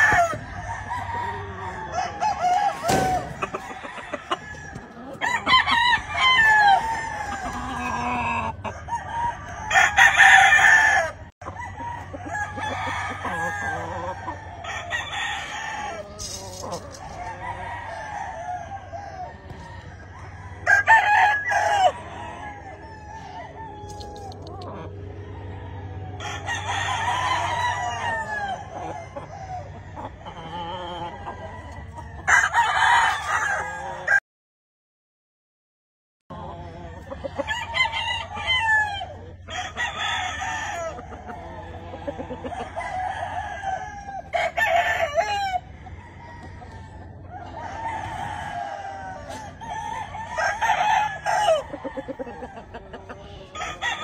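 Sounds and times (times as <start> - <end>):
roosters crowing: 0.0 - 34.2, 36.3 - 54.0.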